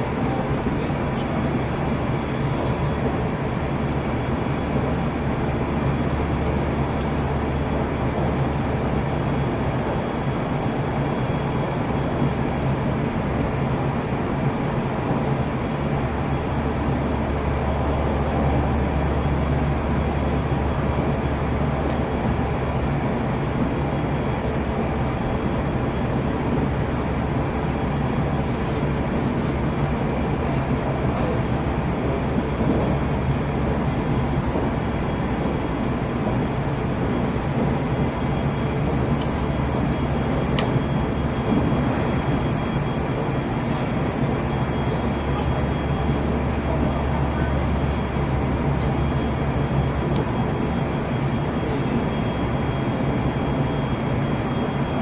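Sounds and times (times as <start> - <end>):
rumble of train wheels on rails: 0.0 - 55.0.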